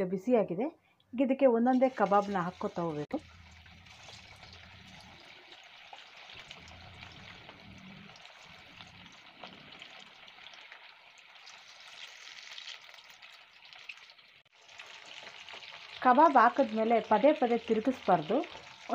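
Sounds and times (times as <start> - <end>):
chicken deep-frying in oil: 1.5 - 18.9.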